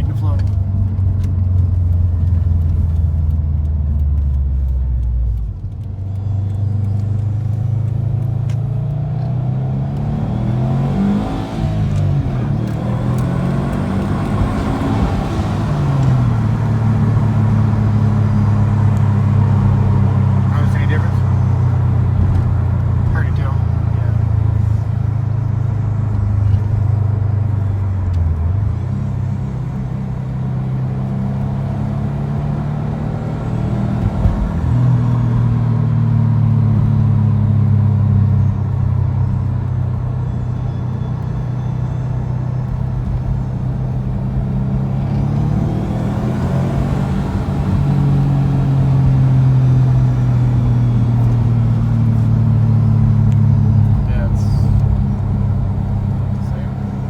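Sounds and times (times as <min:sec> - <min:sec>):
car engine and exhaust droning: 0:00.0 - 0:57.0.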